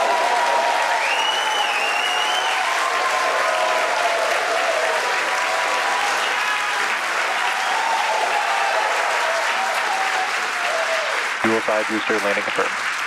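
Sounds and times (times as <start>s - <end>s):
crowd cheering and applauding: 0.0s - 13.0s.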